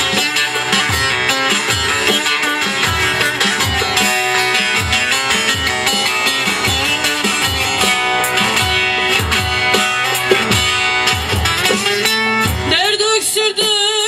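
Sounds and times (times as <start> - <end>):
low beat: 0.0 - 12.8
plucked string instruments: 0.0 - 14.0.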